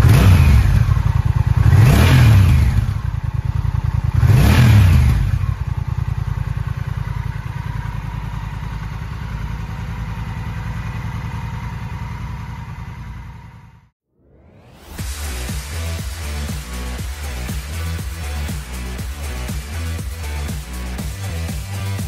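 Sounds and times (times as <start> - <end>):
motorcycle engine idling: 0.0 - 14.0, 15.0 - 22.0.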